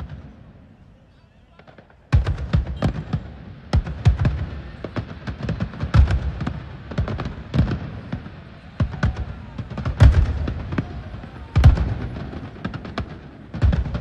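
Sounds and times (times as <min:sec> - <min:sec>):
deep fireworks booms: 0:00.0 - 0:00.8, 0:01.5 - 0:14.0
fireworks bangs and crackles: 0:00.0 - 0:14.0.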